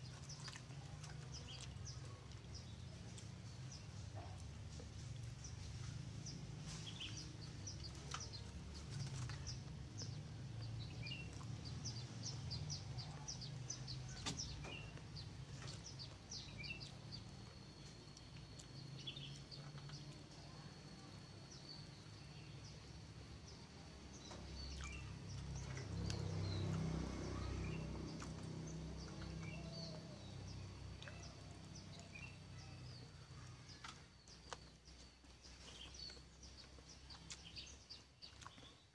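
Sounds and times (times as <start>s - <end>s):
low background rumble: 0.0s - 38.9s
small birds chirping: 0.0s - 38.9s.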